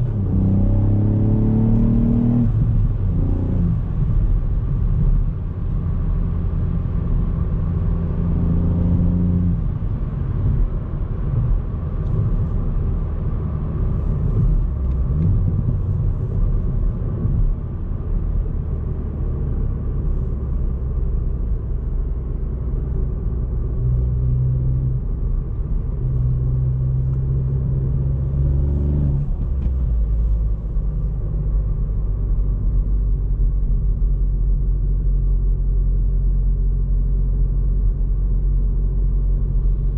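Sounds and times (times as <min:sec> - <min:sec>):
car engine rumbling: 0:00.0 - 0:39.9
road noise: 0:00.0 - 0:39.9.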